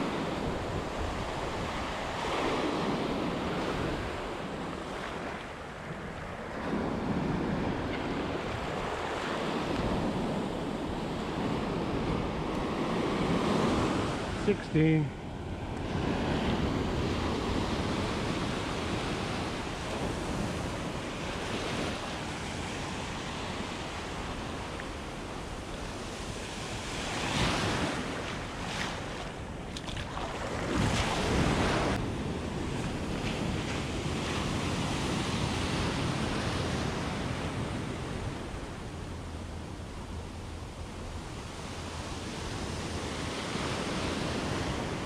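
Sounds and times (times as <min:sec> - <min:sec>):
ocean surf washing on sand: 0:00.0 - 0:45.0.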